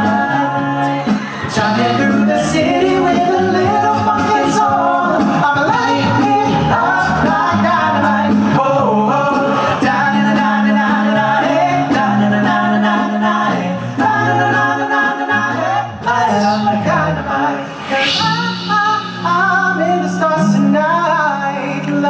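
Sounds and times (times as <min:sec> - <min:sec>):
male a cappella group singing: 0:00.0 - 0:22.0.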